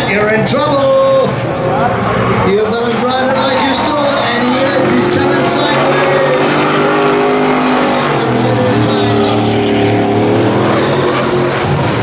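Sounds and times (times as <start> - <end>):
racing truck engines at high revs: 0.0 - 12.0.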